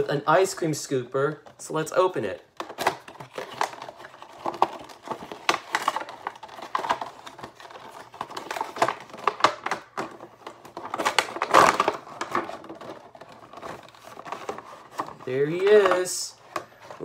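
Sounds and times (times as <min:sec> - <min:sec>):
plastic insert rustling: 0:00.0 - 0:17.0
cardboard box crinkling and rustling: 0:02.6 - 0:17.0.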